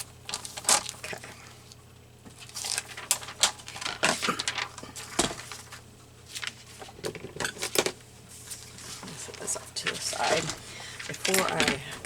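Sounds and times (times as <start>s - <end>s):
paper rustling: 0.3s - 12.0s.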